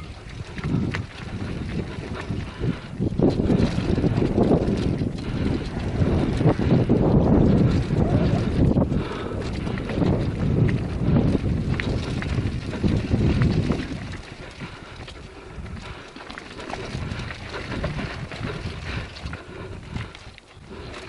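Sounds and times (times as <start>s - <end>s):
wind buffeting microphone: 0.0s - 21.0s
bike rattling over bumps: 0.4s - 20.9s.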